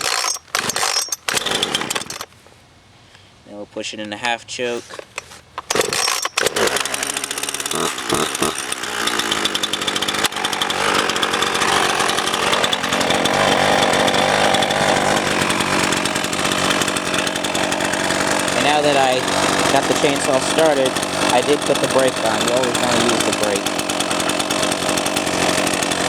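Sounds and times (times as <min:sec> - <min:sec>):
chainsaw engine starting and running: 0:00.0 - 0:02.4, 0:04.7 - 0:26.0.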